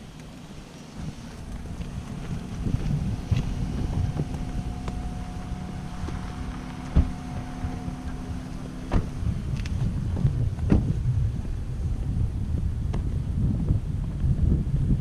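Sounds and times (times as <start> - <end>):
faint steady hum: 0.0 - 15.0
wind buffeting microphone: 0.0 - 15.0.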